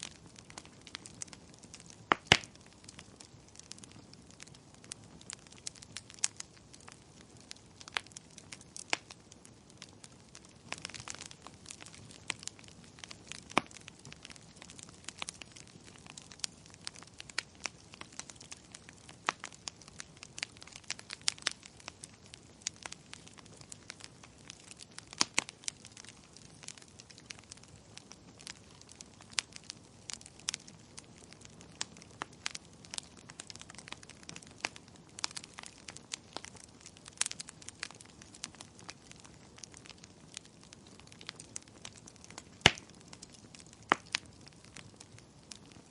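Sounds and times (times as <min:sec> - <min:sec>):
fire crackling and popping: 0:00.0 - 0:45.9
soft steady hiss: 0:00.0 - 0:45.9.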